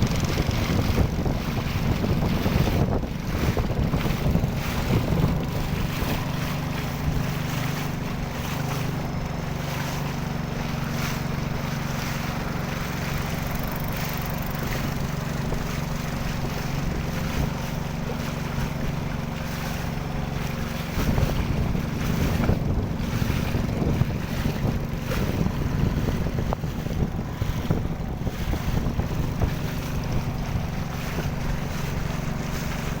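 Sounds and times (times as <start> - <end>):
boat engine running: 0.0 - 33.0
water noise: 0.0 - 33.0
wind buffeting microphone: 0.0 - 33.0.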